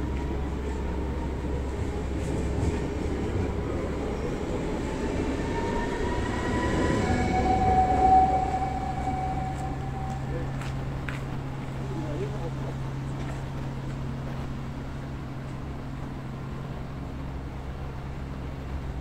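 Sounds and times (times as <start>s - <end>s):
train rumbling by: 0.0s - 19.0s.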